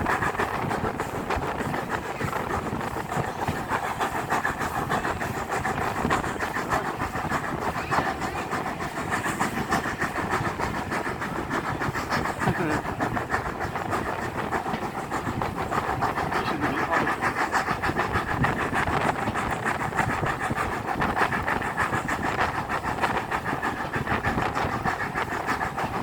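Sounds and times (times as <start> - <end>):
train wheels on rails: 0.0 - 26.0.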